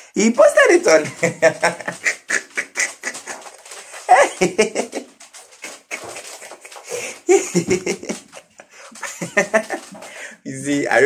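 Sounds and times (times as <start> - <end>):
man laughing: 1.0 - 10.1.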